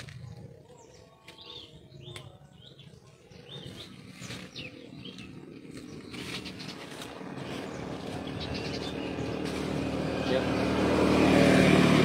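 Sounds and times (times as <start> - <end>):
small birds chirping: 0.0 - 11.7.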